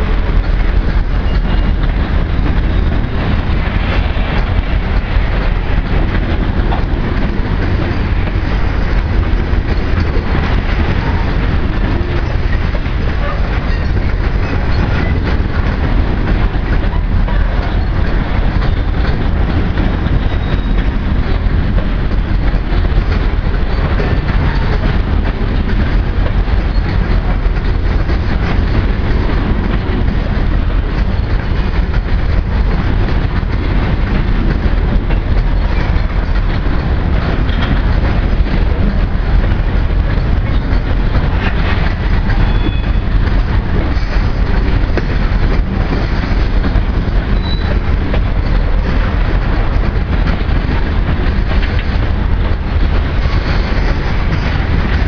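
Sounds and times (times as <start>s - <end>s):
train wheels rumbling on rail: 0.0s - 55.0s
wheels clicking and clacking: 0.0s - 55.0s.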